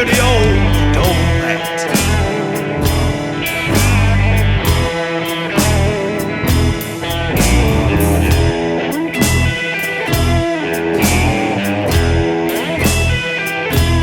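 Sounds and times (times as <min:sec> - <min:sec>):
bass: 0:00.0 - 0:14.0
drum kit beat: 0:00.0 - 0:14.0
electric guitar: 0:00.0 - 0:14.0.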